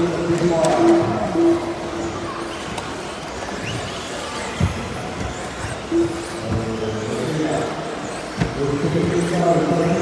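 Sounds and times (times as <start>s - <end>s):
rc buggy motors and tyres: 0.0s - 10.0s.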